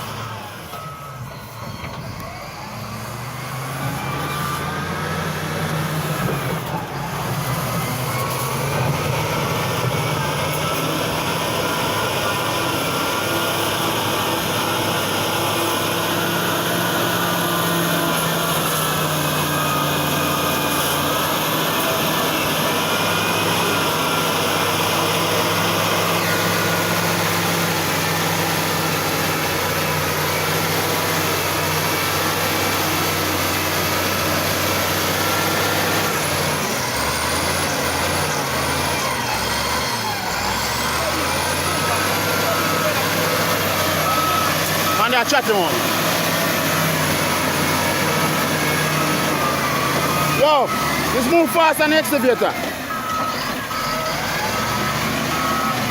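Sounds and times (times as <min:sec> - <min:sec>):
diesel engine running loudly: 0:00.0 - 0:55.9.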